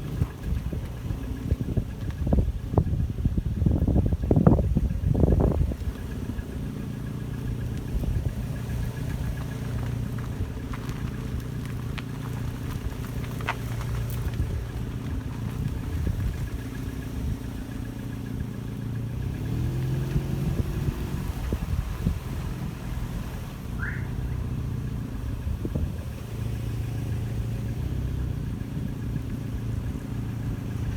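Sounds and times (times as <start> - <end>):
car engine running with knock: 0.0 - 30.9.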